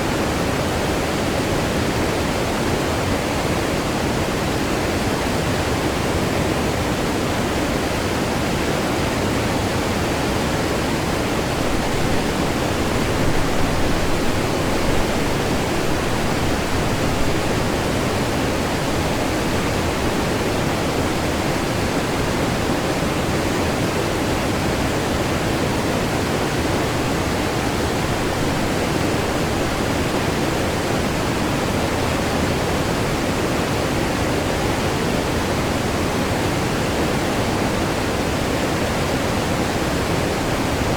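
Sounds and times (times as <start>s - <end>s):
waterfall roaring: 5.0s - 40.9s.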